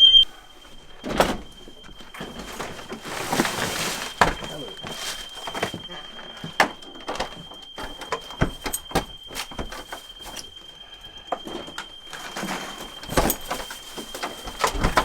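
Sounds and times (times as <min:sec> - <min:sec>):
steady high-pitched tone: 0:00.0 - 0:14.6
knocks and clatter of handling things: 0:00.3 - 0:15.0.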